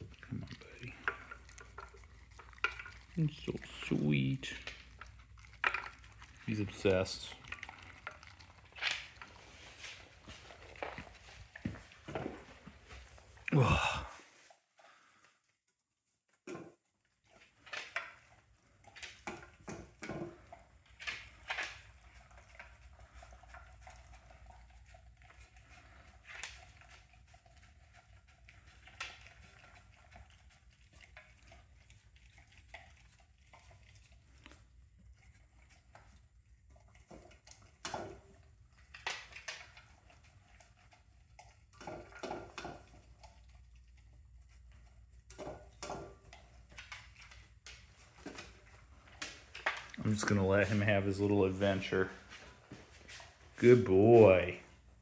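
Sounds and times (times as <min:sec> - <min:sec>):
dog licking: 0:00.0 - 0:13.6, 0:16.5 - 0:55.0.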